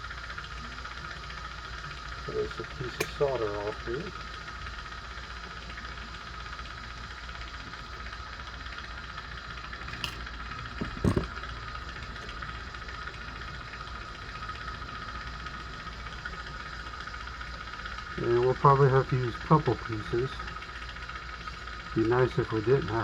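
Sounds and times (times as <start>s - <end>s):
torch flame burning: 0.0s - 23.0s.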